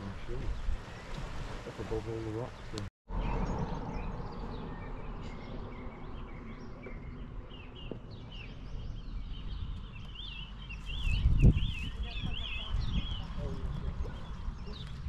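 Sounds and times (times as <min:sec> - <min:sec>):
small birds chirping: 0:01.8 - 0:15.0.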